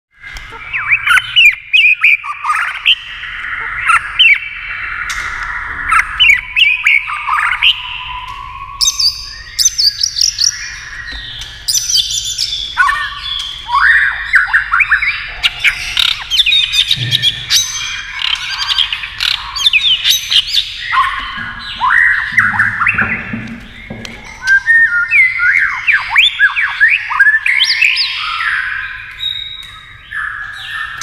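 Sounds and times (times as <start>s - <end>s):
bird singing: 0.1s - 31.0s.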